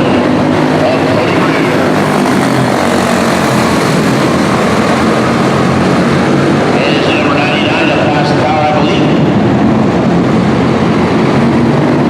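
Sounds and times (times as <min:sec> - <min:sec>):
small race car engines buzzing: 0:00.0 - 0:12.0.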